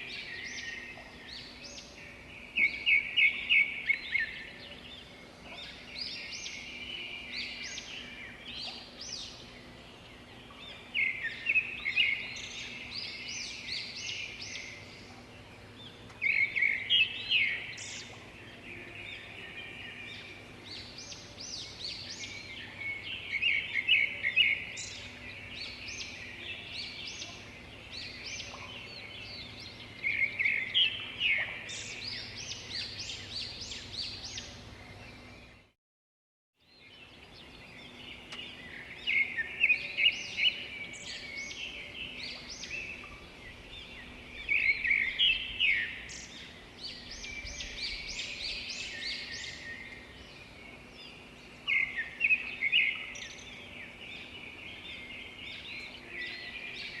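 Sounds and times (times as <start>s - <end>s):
low steady hum: 0.0s - 35.7s, 36.7s - 57.0s
songbird chirping: 0.0s - 35.8s, 36.6s - 57.0s.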